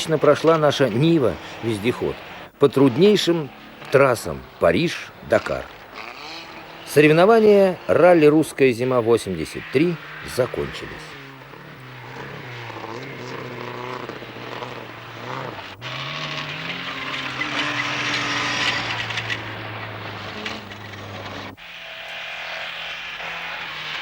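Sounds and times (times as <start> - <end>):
engine revving up: 0.0 - 24.0
rally car engines running: 0.0 - 24.0.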